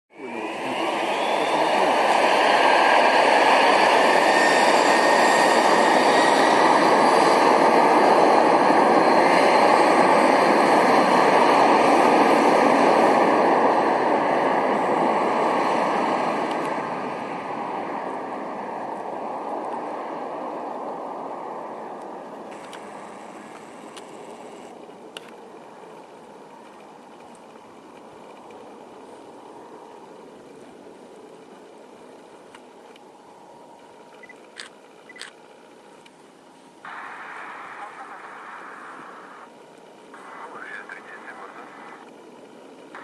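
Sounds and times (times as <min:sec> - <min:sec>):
jet engines roaring at takeoff: 0:00.1 - 0:43.0.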